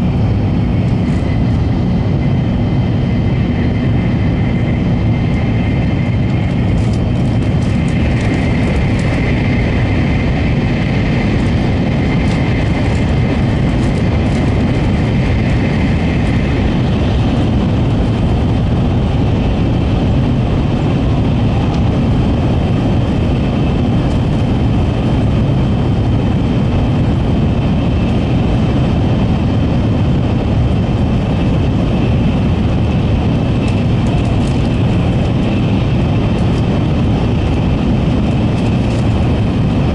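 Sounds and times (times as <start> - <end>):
train rumbling at speed: 0.0 - 39.9.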